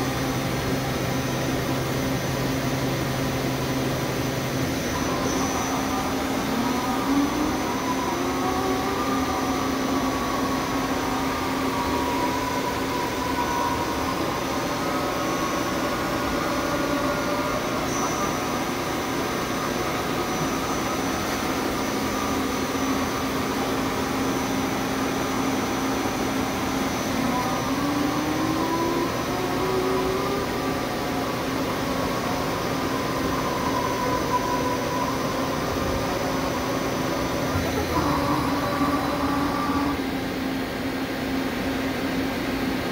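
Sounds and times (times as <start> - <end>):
lathe machine whir and hum: 0.0 - 42.9.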